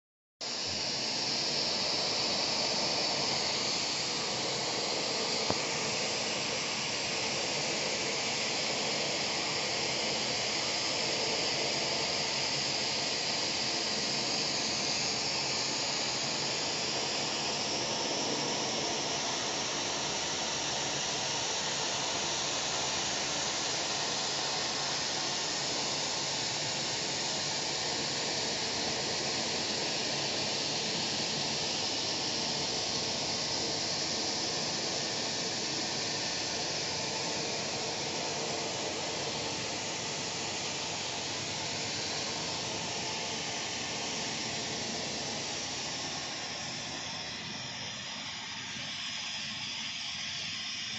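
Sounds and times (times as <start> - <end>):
hiss of rushing air: 0.5 - 50.9.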